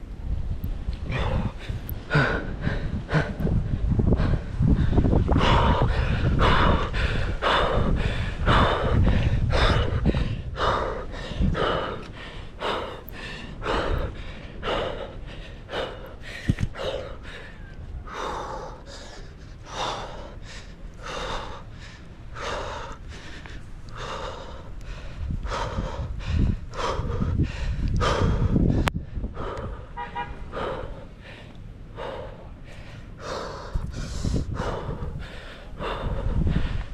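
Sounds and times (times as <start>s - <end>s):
wind rumble on microphone: 0.0s - 36.9s
person breathing hard: 1.0s - 36.9s.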